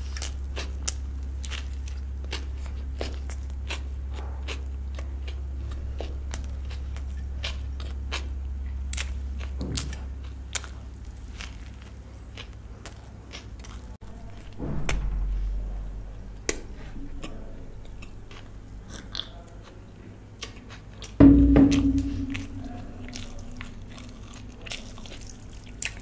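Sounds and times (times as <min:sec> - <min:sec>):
chewing and biting food: 0:00.0 - 0:14.0, 0:16.5 - 0:21.2, 0:23.2 - 0:26.0.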